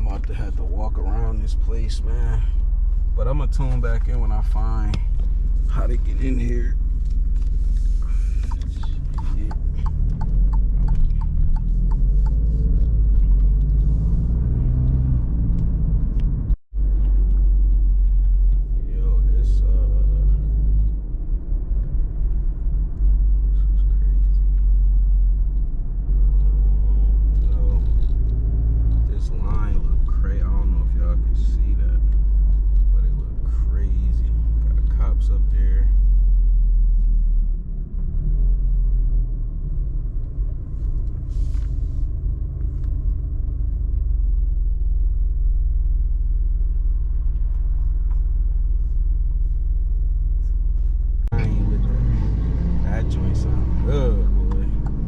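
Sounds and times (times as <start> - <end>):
car engine and road drone: 0.0 - 55.0.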